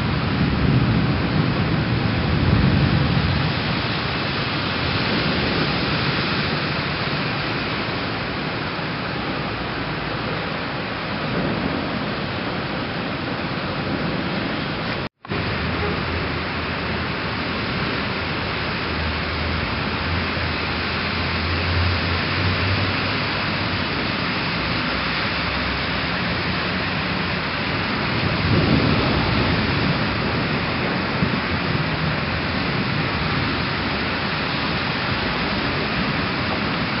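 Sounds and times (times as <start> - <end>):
heavy rain pouring: 0.0 - 37.0
low thunder rumbles: 0.0 - 37.0.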